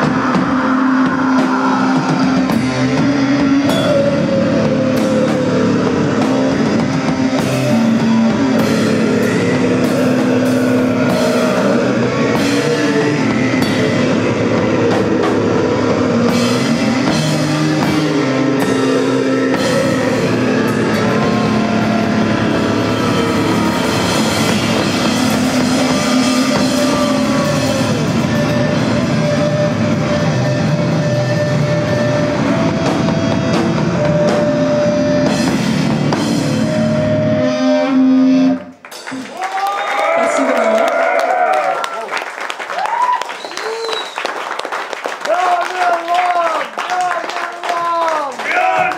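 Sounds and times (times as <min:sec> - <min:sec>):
rock band playing live: 0:00.0 - 0:39.4.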